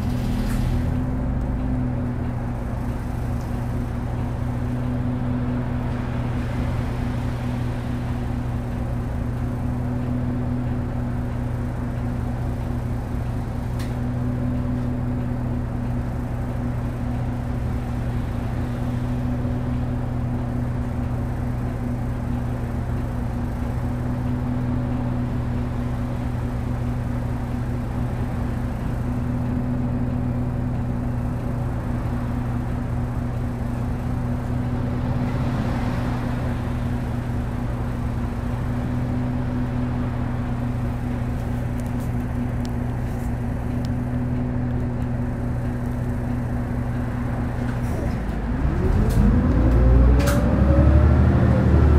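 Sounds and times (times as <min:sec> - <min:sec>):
bus diesel engine idling: 0:00.0 - 0:51.9.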